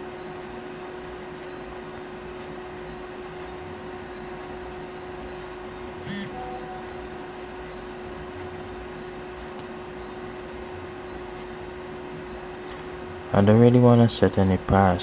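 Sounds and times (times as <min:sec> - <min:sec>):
constant hum: 0:00.0 - 0:15.0
faint high whine: 0:00.0 - 0:15.0.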